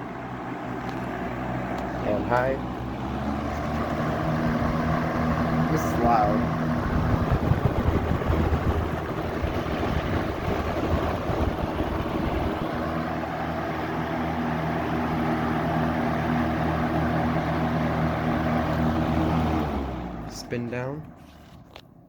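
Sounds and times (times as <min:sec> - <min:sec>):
box fan air rushing: 0:00.0 - 0:20.2
electric motor hum: 0:00.0 - 0:21.8.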